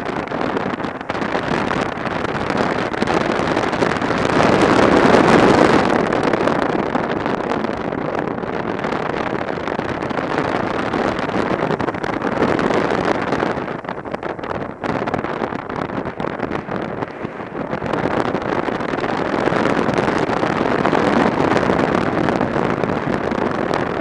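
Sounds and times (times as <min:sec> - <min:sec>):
road noise: 0:00.0 - 0:24.0
wind rushing over microphone: 0:00.0 - 0:24.0.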